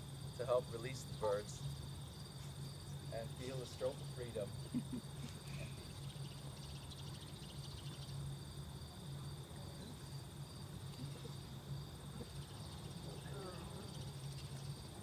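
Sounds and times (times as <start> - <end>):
insects trilling: 0.0 - 15.0
low steady hum: 0.0 - 15.0.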